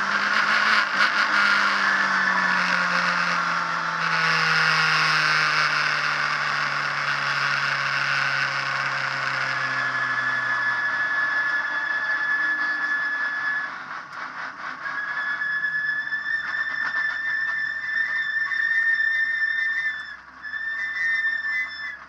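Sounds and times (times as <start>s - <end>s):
high-pitched whine in car cabin: 0.0s - 22.0s.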